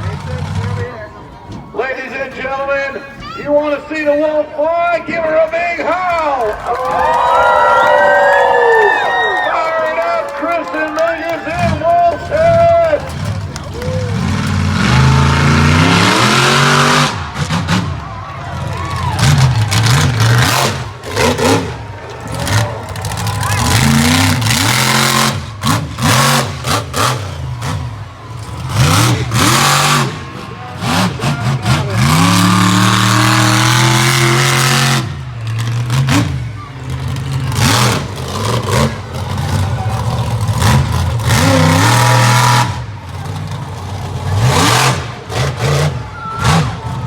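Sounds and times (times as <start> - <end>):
truck engine revving: 0.0 - 1.6, 9.9 - 47.0.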